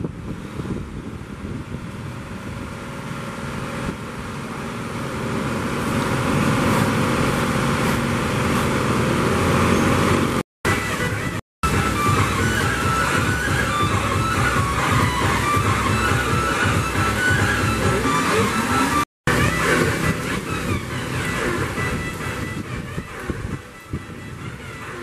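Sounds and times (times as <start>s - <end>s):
strong wind: 0.0s - 25.0s
heavy rain: 4.1s - 25.0s.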